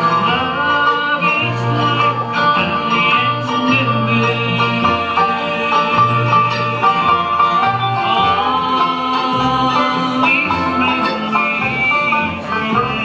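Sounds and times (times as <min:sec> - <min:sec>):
bluegrass band playing: 0:00.0 - 0:13.0
upright bass plucking low notes: 0:00.0 - 0:13.0.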